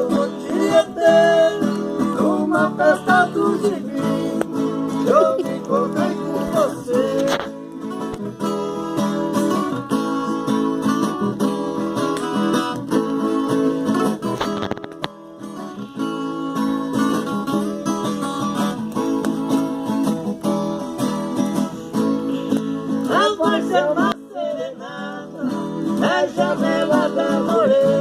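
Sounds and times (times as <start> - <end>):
plucked guitar melody with strumming: 0.0 - 28.0.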